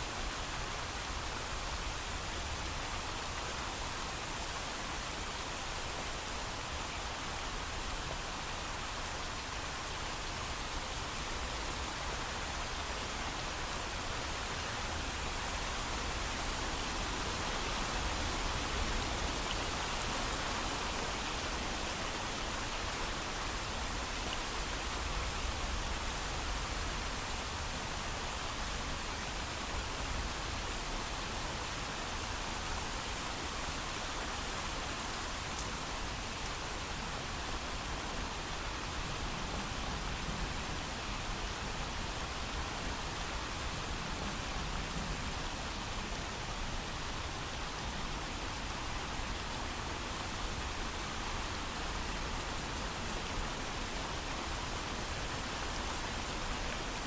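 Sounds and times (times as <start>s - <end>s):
heavy rain: 0.1s - 57.0s.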